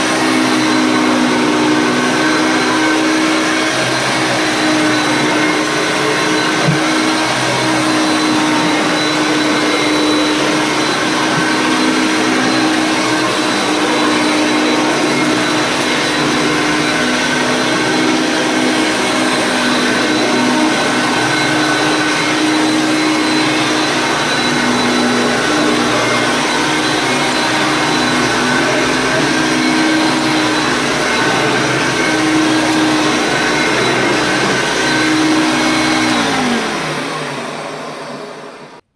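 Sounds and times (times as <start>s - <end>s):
vacuum cleaner motor hum and whine: 0.0s - 38.9s.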